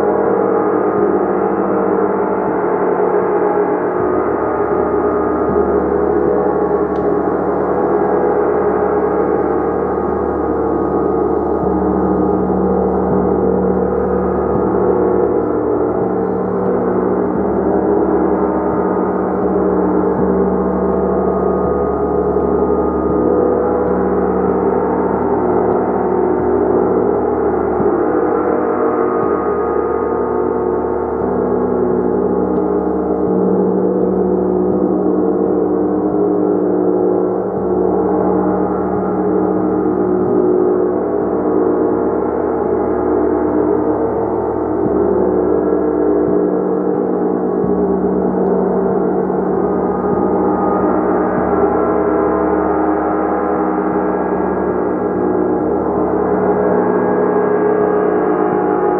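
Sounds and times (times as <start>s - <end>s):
gong ringing continuously: 0.0s - 58.9s.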